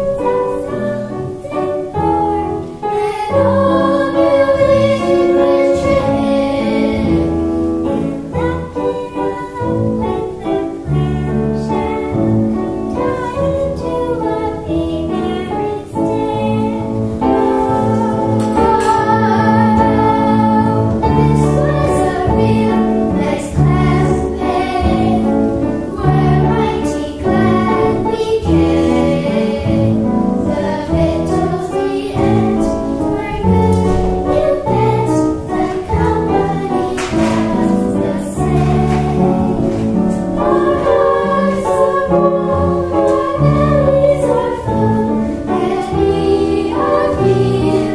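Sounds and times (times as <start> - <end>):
girls singing together: 0.0 - 47.9.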